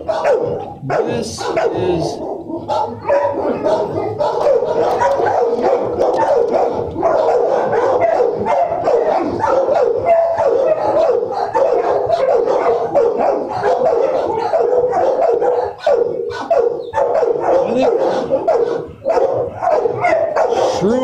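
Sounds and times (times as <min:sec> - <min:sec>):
many dogs barking: 0:00.0 - 0:21.0.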